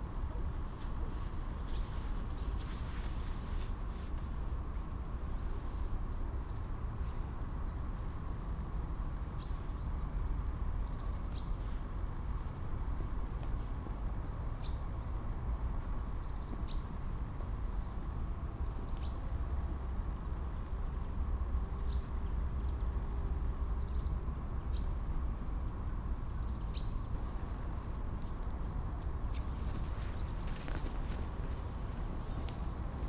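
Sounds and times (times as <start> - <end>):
outdoor background rumble: 0.0 - 33.0.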